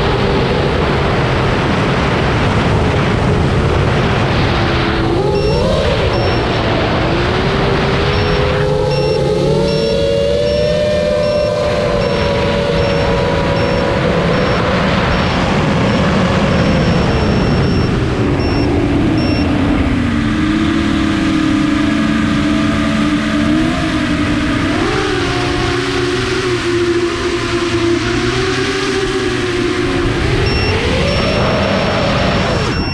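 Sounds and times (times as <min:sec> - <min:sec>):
drone motors whining: 0:05.0 - 0:32.9.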